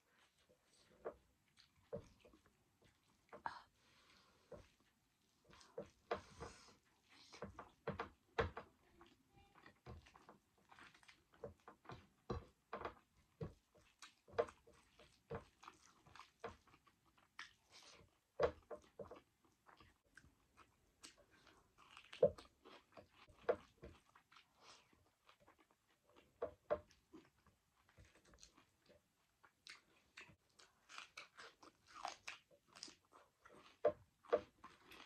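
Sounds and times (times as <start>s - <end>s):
fingers mixing food on a plate: 4.0s - 35.0s
wet chewing clicks and smacks: 6.8s - 35.0s.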